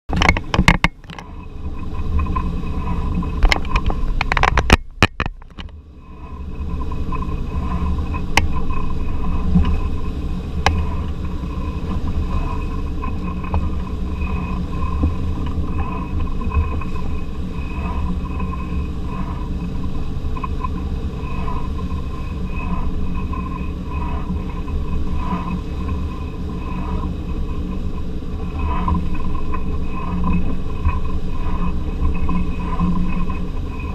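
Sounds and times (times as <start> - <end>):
boat engine humming: 0.1 - 33.9.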